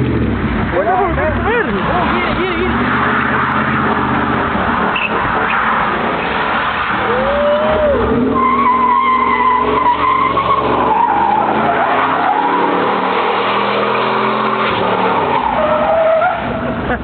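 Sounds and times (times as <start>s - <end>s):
car engine running hard: 0.0s - 15.6s
tyres squealing: 1.6s - 16.7s.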